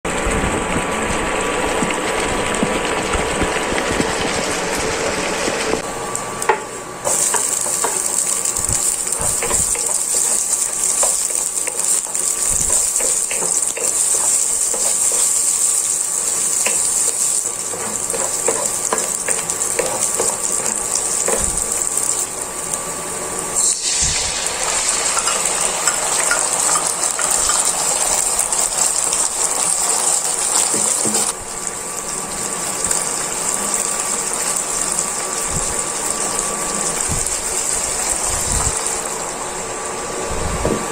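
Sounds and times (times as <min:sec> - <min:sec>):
onion sizzling in hot oil: 0:00.1 - 0:40.9.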